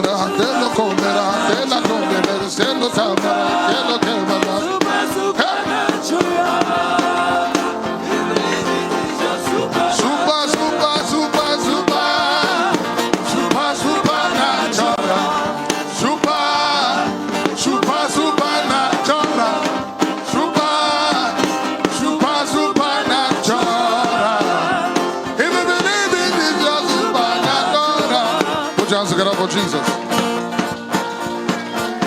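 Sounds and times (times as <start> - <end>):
live gospel band playing: 0.0 - 32.0
wavering melody line: 0.0 - 32.0.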